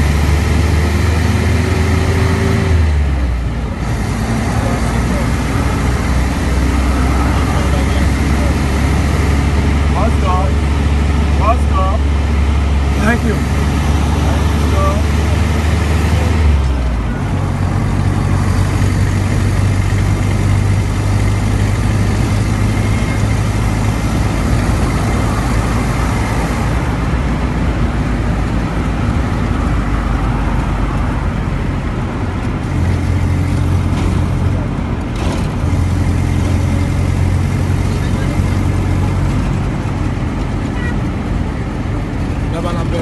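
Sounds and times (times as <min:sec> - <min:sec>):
car engine hum: 0:00.0 - 0:43.0
tyre noise on paved road: 0:00.0 - 0:43.0.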